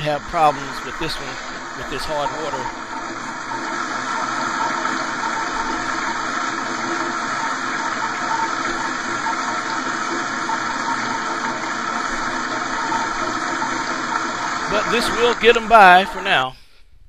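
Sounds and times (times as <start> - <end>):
toilet water rushing: 0.0 - 16.5.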